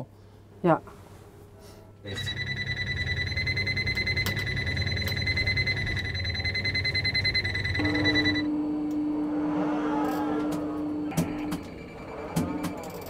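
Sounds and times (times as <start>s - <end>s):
fast-pulsing alarm buzzer: 2.1s - 12.8s
low steady tone: 2.1s - 13.0s.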